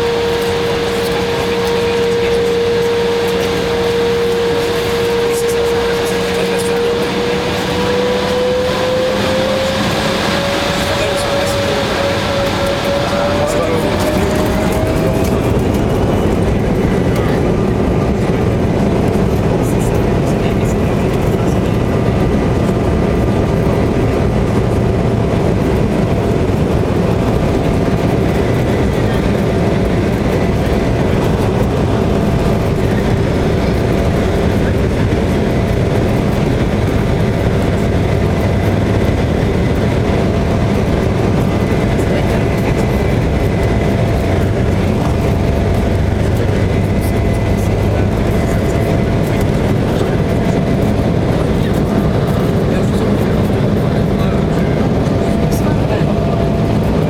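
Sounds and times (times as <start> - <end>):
faint steady engine whine: 0.0 - 57.0
jet engines low rumble: 0.0 - 57.0.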